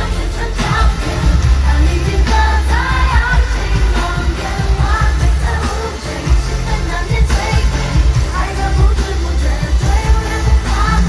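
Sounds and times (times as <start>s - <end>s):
bass-heavy backing music: 0.0s - 11.0s
woman singing: 0.0s - 11.0s.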